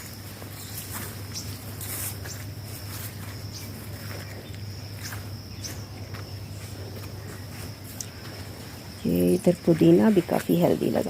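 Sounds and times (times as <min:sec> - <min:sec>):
high-pitched insect trill: 0:00.0 - 0:11.0
low steady hum: 0:00.0 - 0:11.0.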